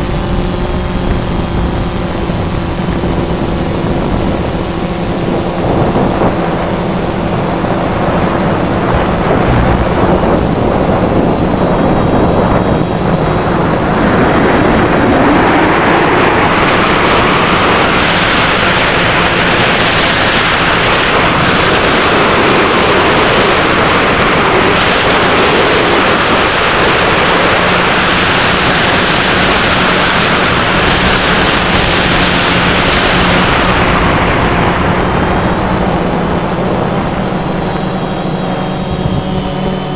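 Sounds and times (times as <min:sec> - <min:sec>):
drone propellers humming: 0:00.0 - 0:39.9
wind rushing over microphone: 0:00.0 - 0:39.9.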